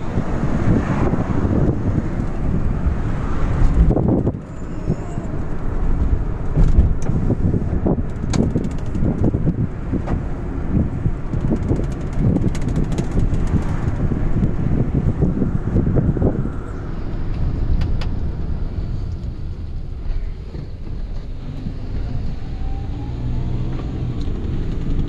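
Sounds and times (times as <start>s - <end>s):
tyres and engine rumble: 0.0s - 25.0s
wind buffeting microphone: 0.0s - 25.0s.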